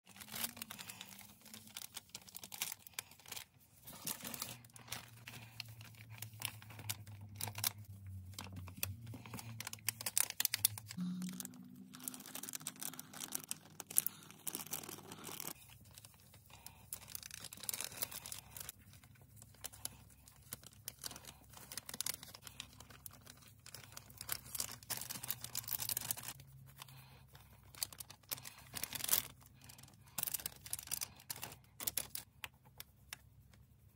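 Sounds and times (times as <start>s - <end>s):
packets crinkling and tearing: 0.1s - 32.9s.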